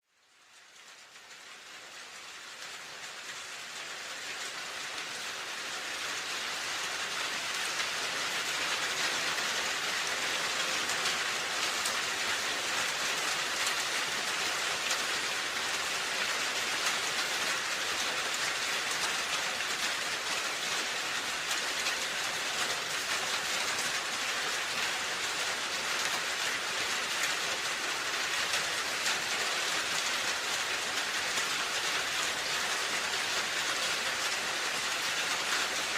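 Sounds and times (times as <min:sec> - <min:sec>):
rain falling on a roof: 0:00.0 - 0:35.9.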